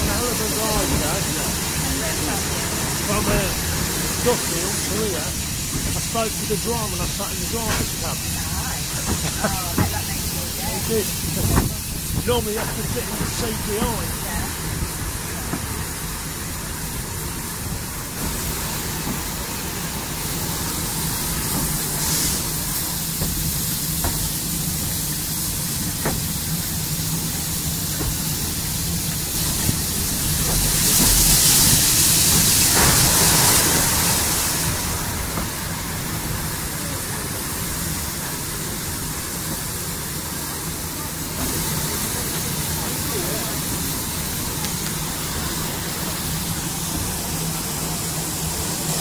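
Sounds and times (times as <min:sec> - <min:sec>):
steam hiss: 0:00.0 - 0:49.0
train wheels on rail: 0:00.0 - 0:49.0.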